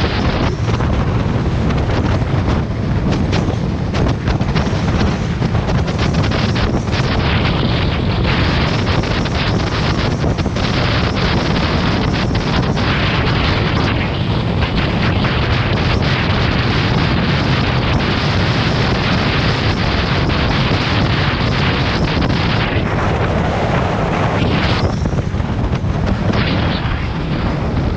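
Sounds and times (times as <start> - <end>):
motorcycle engine running: 0.0 - 23.6
wind buffeting microphone: 0.0 - 27.9.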